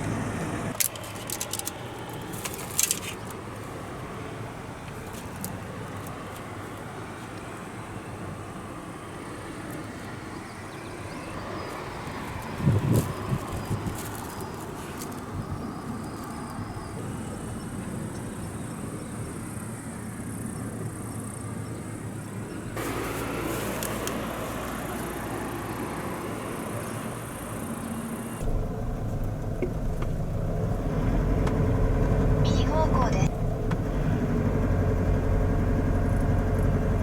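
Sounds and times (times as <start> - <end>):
vehicle running noise: 0.0 - 37.0.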